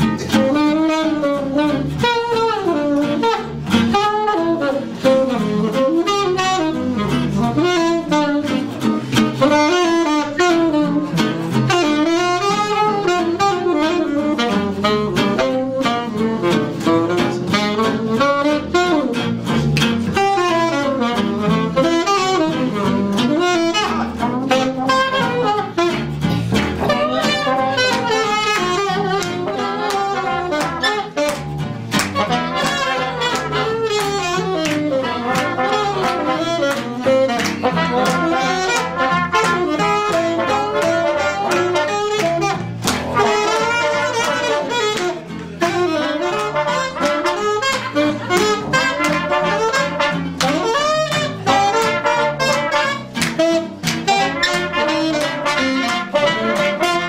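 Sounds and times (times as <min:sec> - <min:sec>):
jazz band playing live: 0:00.0 - 0:57.0.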